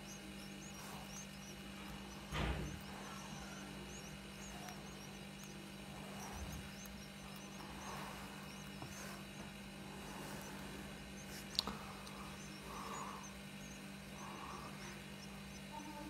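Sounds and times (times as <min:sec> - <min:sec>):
low hum: 0:00.0 - 0:16.0
nestlings begging cheeps: 0:00.0 - 0:16.0.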